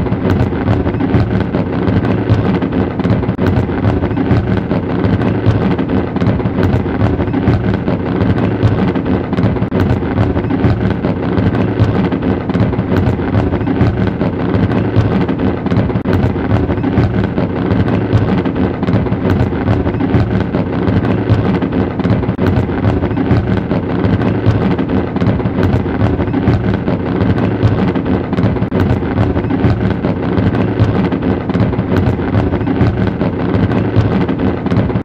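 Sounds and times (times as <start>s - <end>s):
fireworks pops and crackles: 0.0s - 35.0s
rumble of fireworks bursting: 0.0s - 35.0s.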